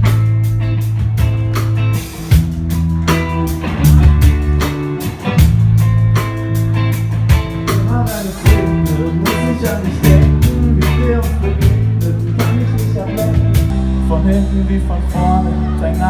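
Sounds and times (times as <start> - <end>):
drum kit beat: 0.0 - 14.6
bass guitar: 0.0 - 16.0
electric guitar: 0.0 - 16.0.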